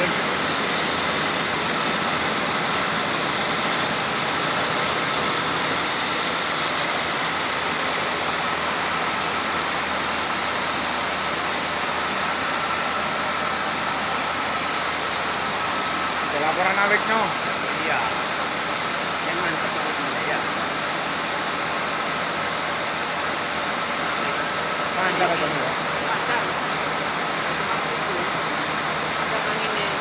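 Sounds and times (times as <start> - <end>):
machine hiss and whir: 0.0 - 30.0.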